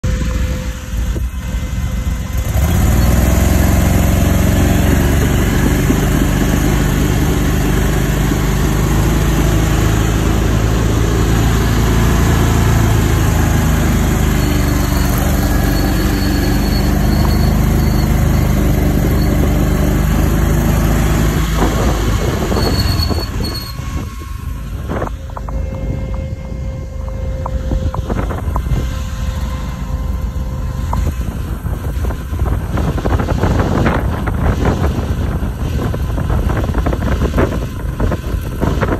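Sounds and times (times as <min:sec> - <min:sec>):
tracked vehicle engine revving: 0:00.0 - 0:38.9.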